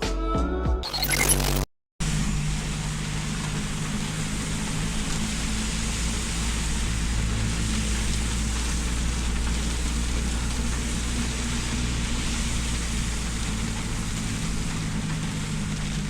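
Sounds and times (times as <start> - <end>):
low hum: 0.9 - 16.0
heavy rain falling: 2.0 - 16.0.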